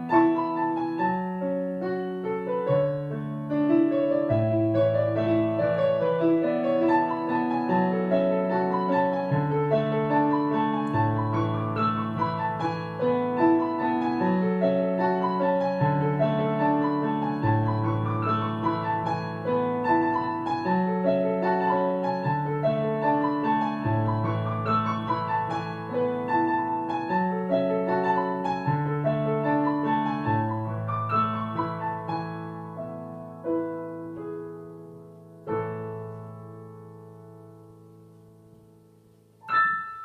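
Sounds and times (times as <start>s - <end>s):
solo piano melody: 0.0s - 40.0s.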